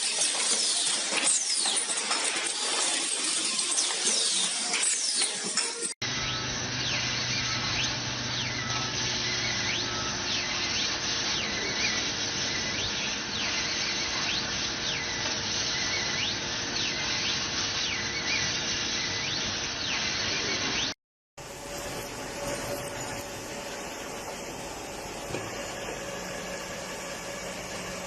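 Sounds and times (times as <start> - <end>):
high machine squeals: 0.0 - 28.0.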